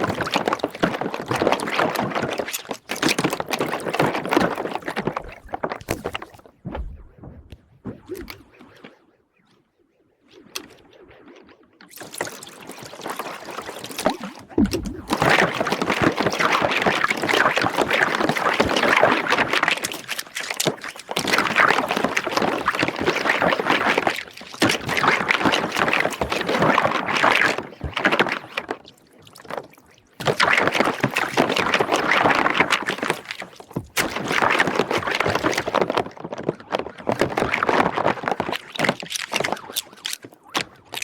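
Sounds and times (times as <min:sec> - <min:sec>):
soapy water bubbling and sloshing: 0:00.0 - 0:09.1, 0:10.0 - 0:41.0.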